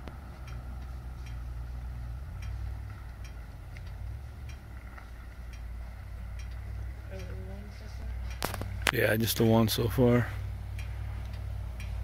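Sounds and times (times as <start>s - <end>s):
faint regular ticks: 0.0s - 9.0s, 10.5s - 12.0s
vehicle engine rumbling: 0.0s - 12.0s.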